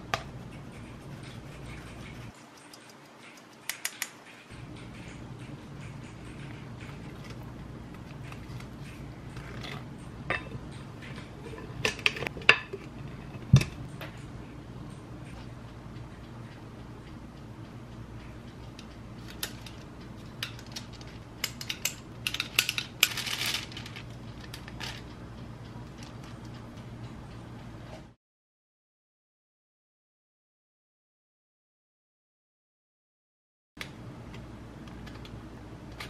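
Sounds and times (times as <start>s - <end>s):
steady low hum: 0.0s - 28.2s, 33.8s - 36.0s.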